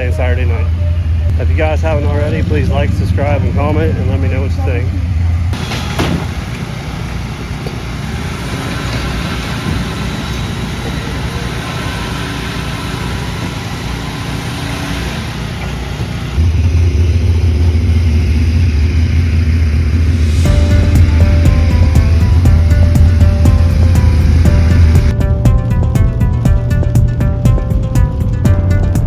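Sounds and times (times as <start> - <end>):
motor vehicle running: 0.0 - 29.0.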